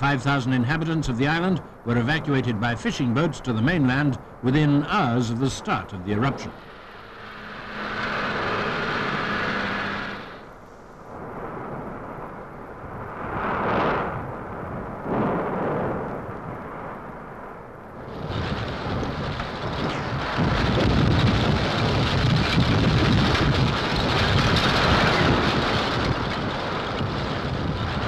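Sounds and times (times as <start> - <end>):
volcanic eruption roaring: 0.0 - 28.0.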